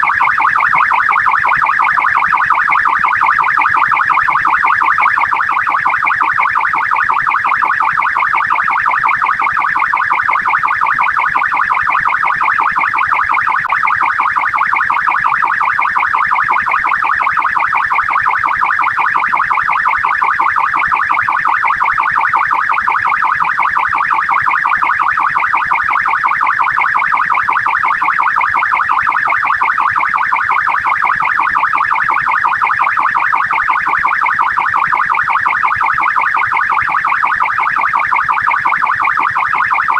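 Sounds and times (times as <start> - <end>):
police siren warbling: 0.0 - 39.9.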